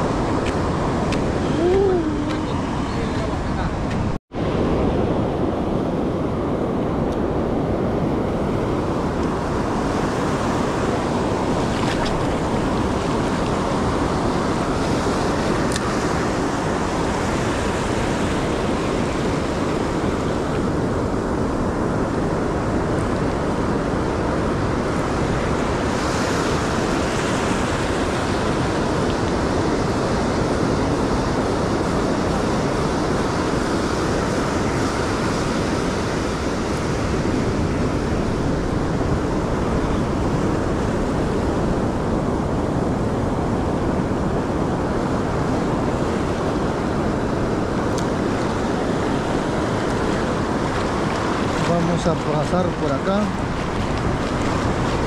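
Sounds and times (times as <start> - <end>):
ocean surf breaking: 0.0 - 55.0
wind on microphone: 0.0 - 55.0.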